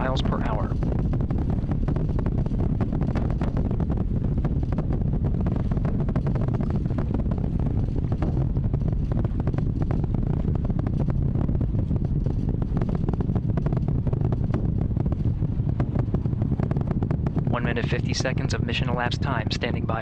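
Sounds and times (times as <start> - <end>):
rocket engines rumbling: 0.0 - 20.0.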